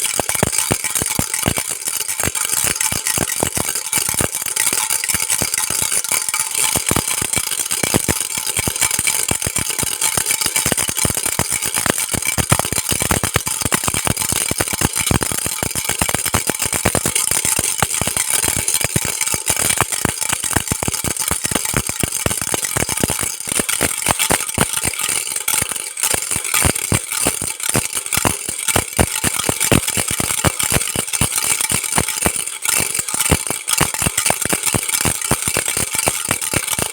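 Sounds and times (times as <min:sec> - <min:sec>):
baby rattle shaking: 0:00.0 - 0:36.9.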